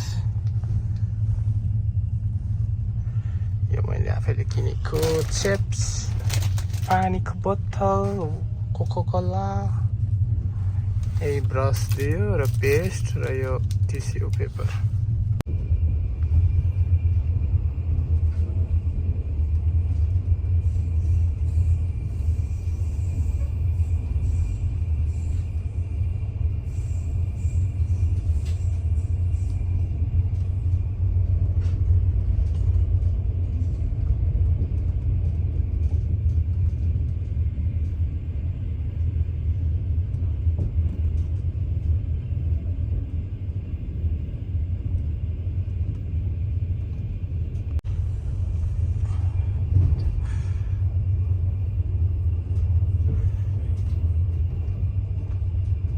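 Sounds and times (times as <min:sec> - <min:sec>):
train rumble inside carriage: 0:00.0 - 0:55.9.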